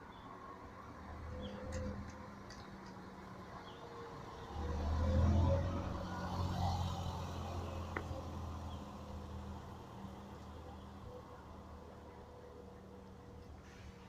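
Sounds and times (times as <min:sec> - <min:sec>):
passing vehicle engine rumble: 0:00.8 - 0:14.0.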